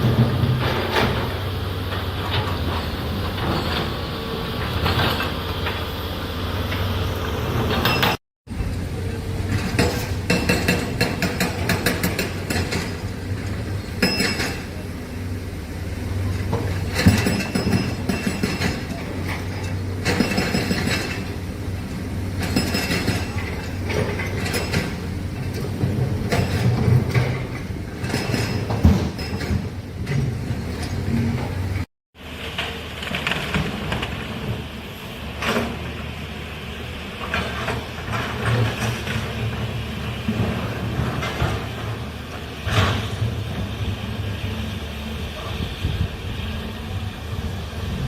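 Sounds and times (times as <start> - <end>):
excavator diesel engine drone: 0.0 - 48.0
metallic clanks from tracks and bucket: 0.0 - 48.0.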